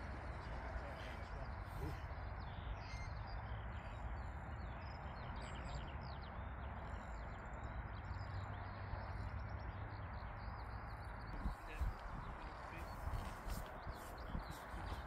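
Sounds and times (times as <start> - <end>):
low outdoor background noise: 0.0 - 15.0
small birds chirping: 0.0 - 15.0.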